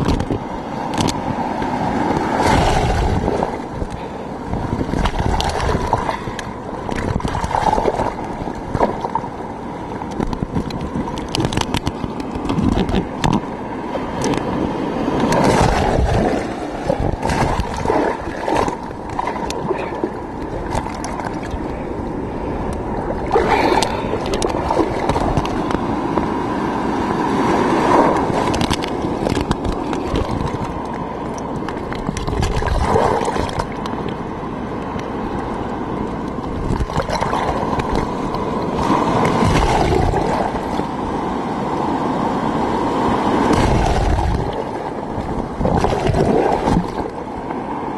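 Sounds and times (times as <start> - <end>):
surf sloshing and gurgling: 0.0 - 47.9.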